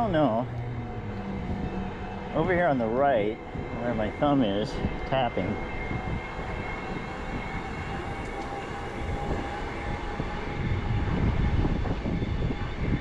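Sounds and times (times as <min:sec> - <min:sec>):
faint steady whine: 0:00.0 - 0:13.0
wind rushing over microphone: 0:00.0 - 0:13.0.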